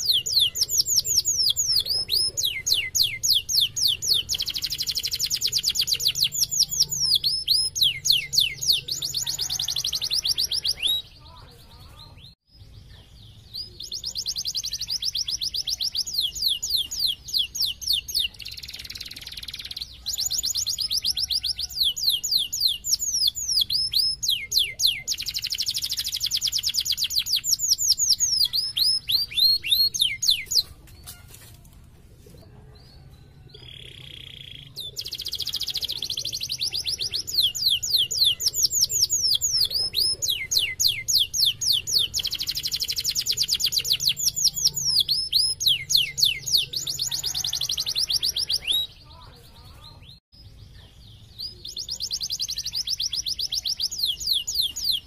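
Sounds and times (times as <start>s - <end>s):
canary trilling: 0.0s - 11.6s, 13.6s - 31.3s, 33.6s - 49.1s.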